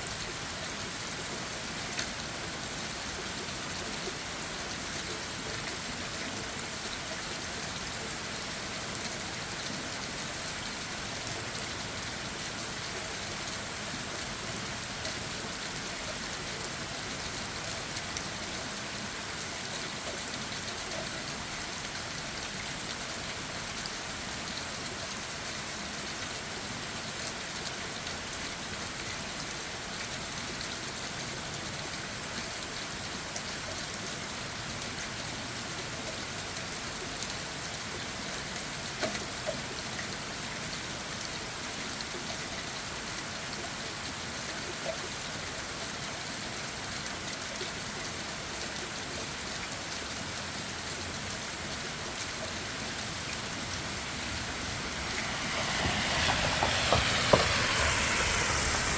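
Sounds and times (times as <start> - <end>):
rain on leaves: 0.0 - 58.9.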